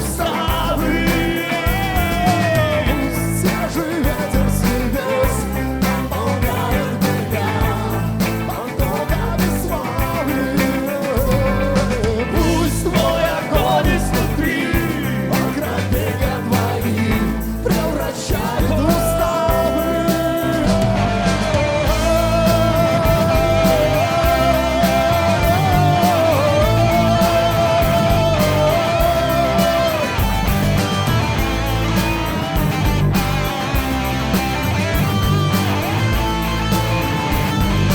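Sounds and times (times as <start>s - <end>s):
rock band playing instrumental: 0.0s - 37.9s.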